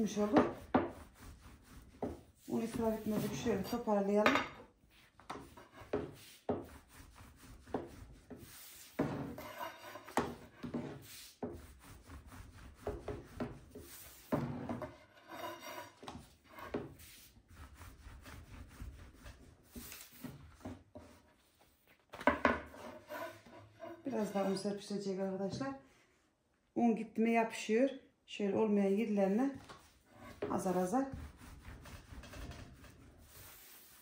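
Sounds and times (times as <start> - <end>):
rolling pin rubbing dough: 0.0 - 4.0, 4.9 - 24.7, 29.7 - 34.0.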